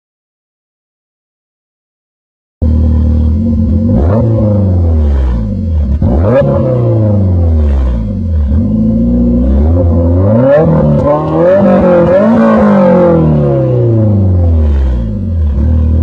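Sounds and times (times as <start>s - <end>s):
car engine revving: 2.6s - 16.0s.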